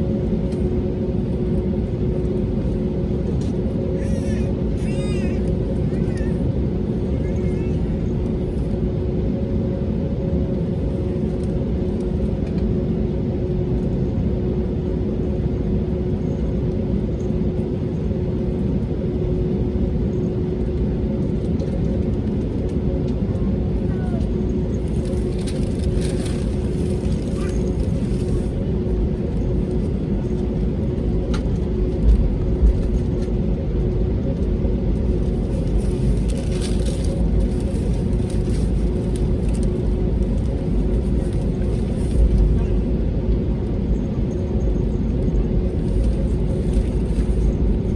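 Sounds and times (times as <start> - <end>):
airplane cabin engine hum: 0.0 - 47.9.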